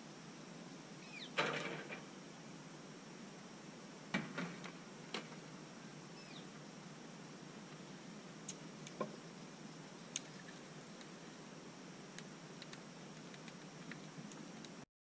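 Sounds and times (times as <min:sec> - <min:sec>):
faint steady hiss: 0:00.0 - 0:14.9.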